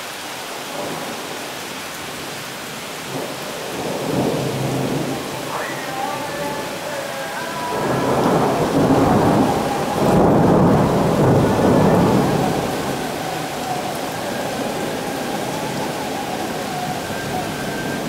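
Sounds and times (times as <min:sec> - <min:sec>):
heavy rain: 0:00.0 - 0:18.0
thunder rumbling: 0:03.0 - 0:18.0.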